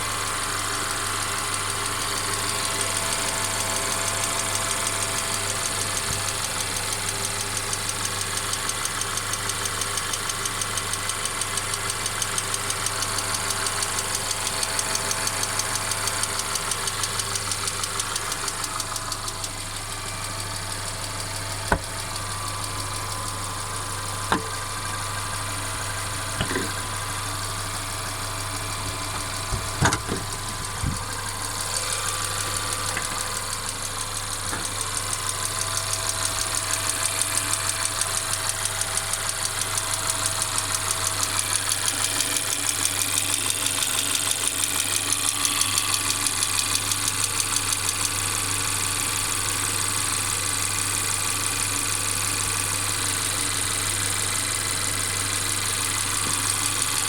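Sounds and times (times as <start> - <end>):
car engine running: 0.0 - 57.0
continuous engine rattle: 0.0 - 57.0.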